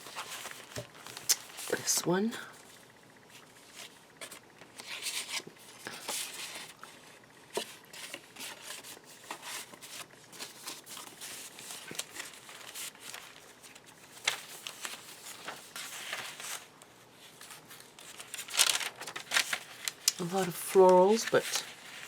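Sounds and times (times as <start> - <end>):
paper pages rustling: 0.0 - 1.9, 3.3 - 22.0.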